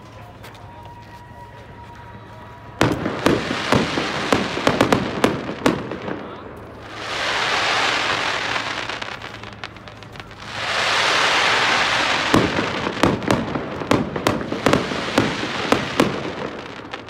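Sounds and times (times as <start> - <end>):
firework fountains hissing: 2.6 - 17.0
firework pops and crackles: 2.8 - 17.0.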